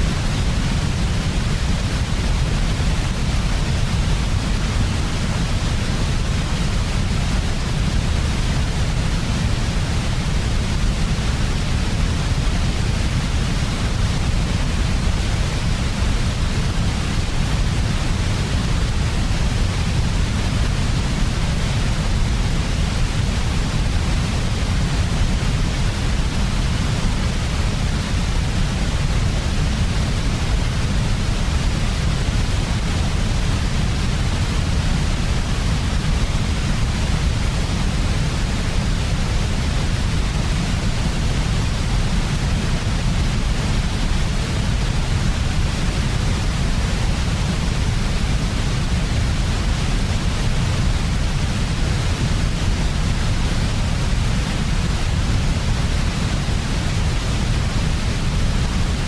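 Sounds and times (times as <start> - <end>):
steady white noise: 0.0 - 59.0.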